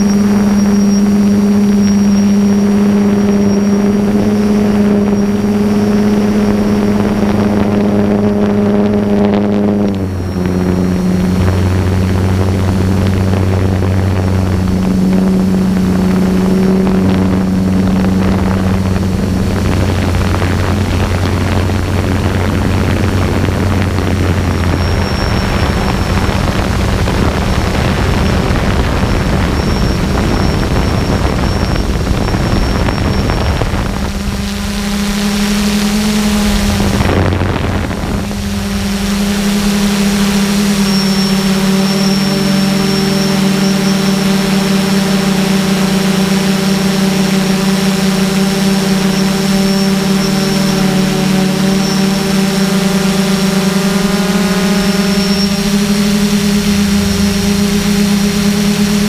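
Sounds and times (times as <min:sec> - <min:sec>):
drone propellers humming: 0:00.0 - 0:59.0
faint high whine: 0:00.0 - 0:59.0
rushing rumbling noise: 0:00.0 - 0:59.0.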